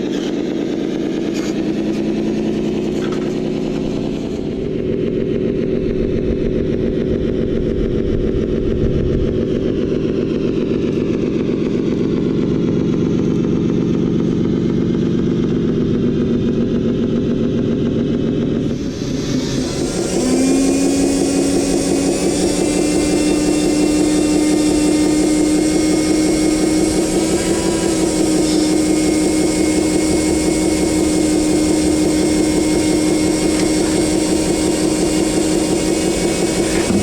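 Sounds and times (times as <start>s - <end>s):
electric motor whine: 0.0s - 14.2s, 18.6s - 37.0s.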